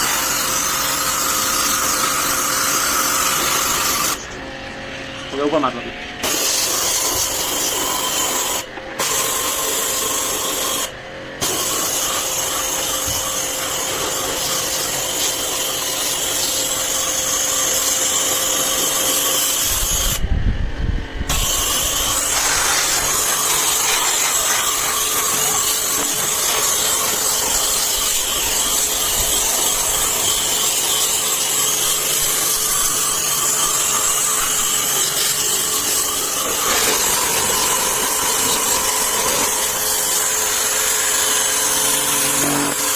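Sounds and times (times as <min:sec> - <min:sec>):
pressure washer spraying water: 0:00.0 - 0:04.4, 0:06.2 - 0:20.2, 0:21.3 - 0:42.9.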